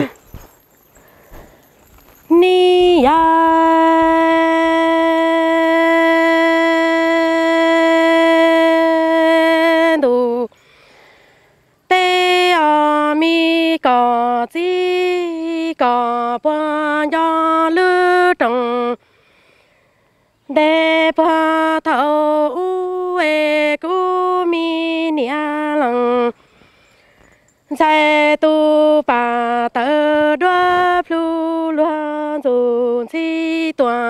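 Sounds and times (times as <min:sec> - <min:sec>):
person singing unaccompanied: 0:00.0 - 0:01.6, 0:02.2 - 0:11.0, 0:11.8 - 0:19.1, 0:20.4 - 0:26.6, 0:27.7 - 0:34.0.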